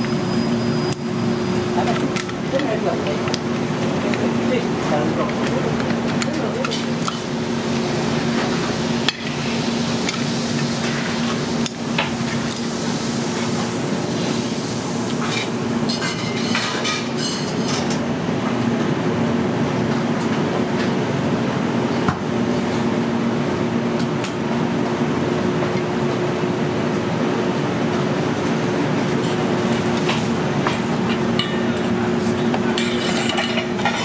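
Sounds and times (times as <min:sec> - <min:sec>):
kitchen ventilation hum and hiss: 0:00.0 - 0:34.0.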